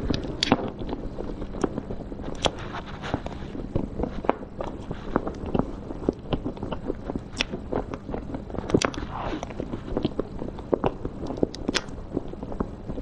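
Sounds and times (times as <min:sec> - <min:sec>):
person chewing cake: 0:00.0 - 0:13.0.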